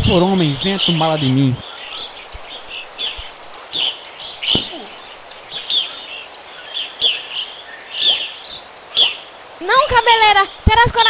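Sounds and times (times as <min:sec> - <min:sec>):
bird chirping falling notes: 0:00.1 - 0:11.0.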